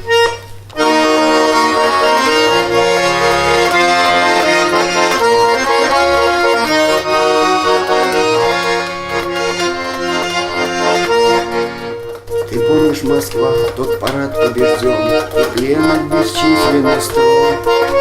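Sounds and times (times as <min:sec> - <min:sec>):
accordion waltz: 0:00.0 - 0:18.0.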